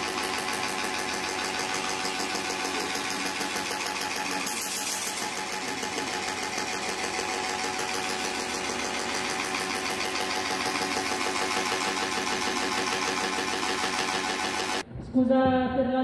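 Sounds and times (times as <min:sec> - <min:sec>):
fast machine-like rattling: 0:00.0 - 0:14.8
held tone: 0:00.0 - 0:14.8.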